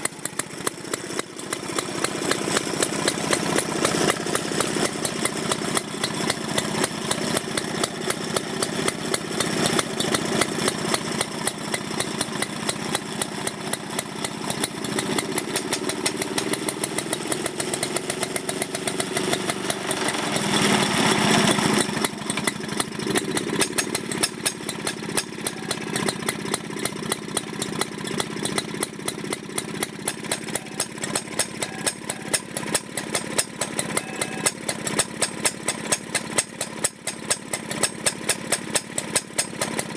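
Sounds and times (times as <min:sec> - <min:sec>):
lawnmower engine running: 0:00.0 - 0:39.9.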